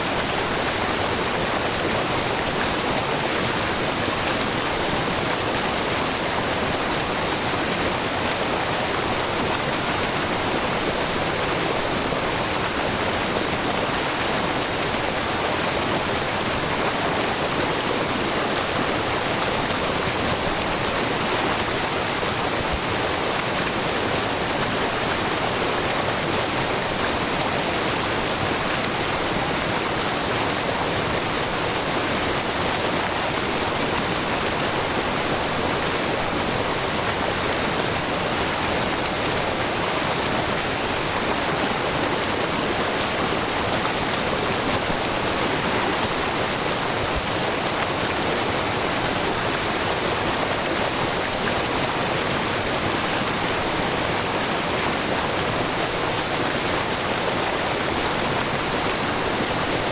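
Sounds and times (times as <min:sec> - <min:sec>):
waterfall rushing into brook: 0:00.0 - 0:59.9.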